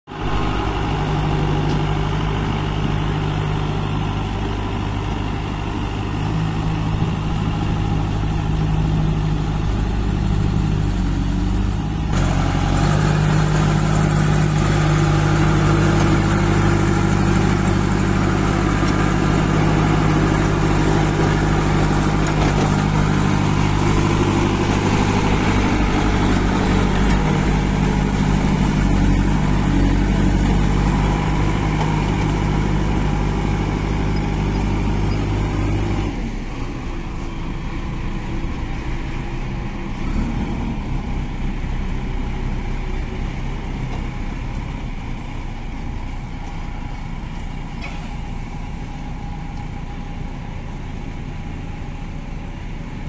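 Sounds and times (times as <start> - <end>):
diesel engine running: 0.1 - 53.0.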